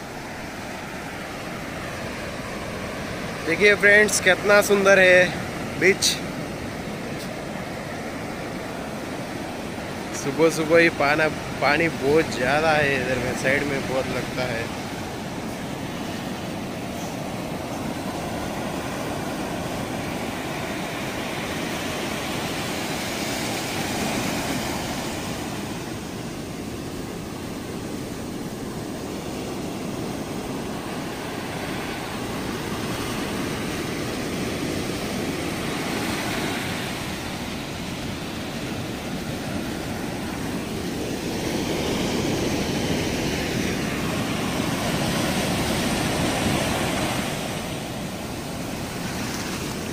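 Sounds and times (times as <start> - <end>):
waves breaking on sand: 0.0 - 49.9.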